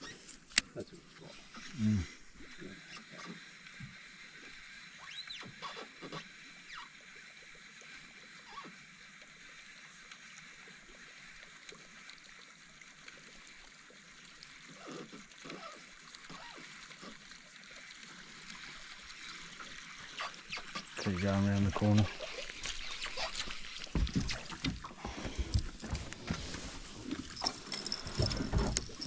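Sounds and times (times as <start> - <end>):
water trickling with splashes: 0.0 - 29.0.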